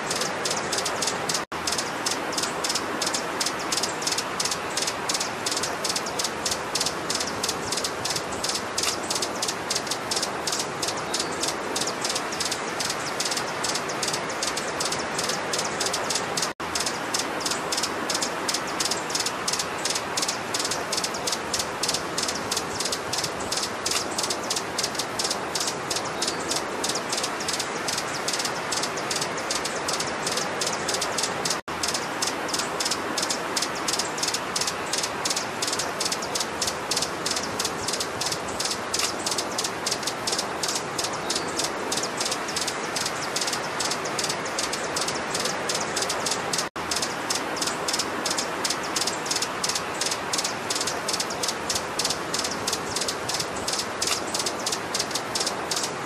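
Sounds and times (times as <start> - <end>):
hummingbird chipping: 0.0 - 56.0.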